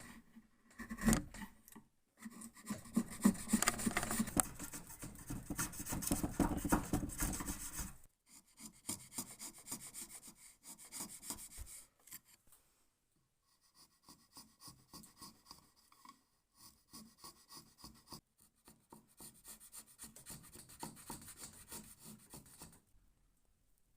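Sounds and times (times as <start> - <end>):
chisel scraping wood: 0.0 - 1.6, 2.2 - 12.4, 13.7 - 22.8.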